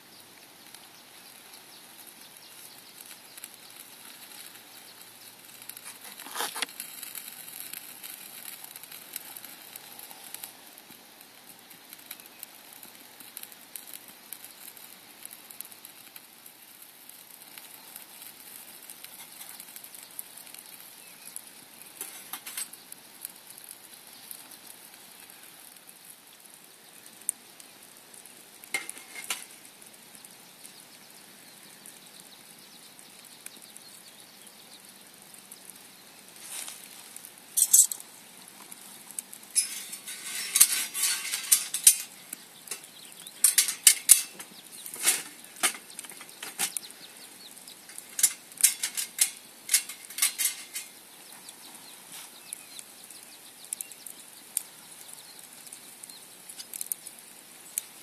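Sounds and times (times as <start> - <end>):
stove burning with sizzling hiss: 0.0 - 58.0.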